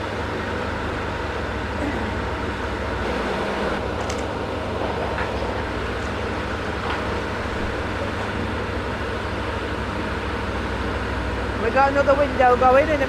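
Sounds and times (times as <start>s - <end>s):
heavy machinery engine rumble: 0.0s - 13.0s.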